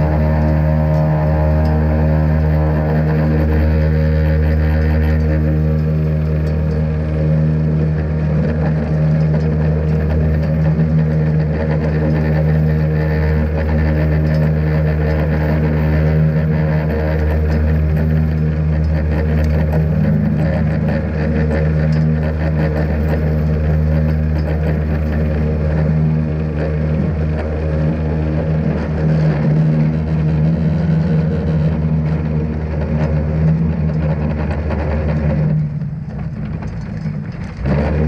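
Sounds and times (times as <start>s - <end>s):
truck and salt spreader drone: 0.0s - 38.0s.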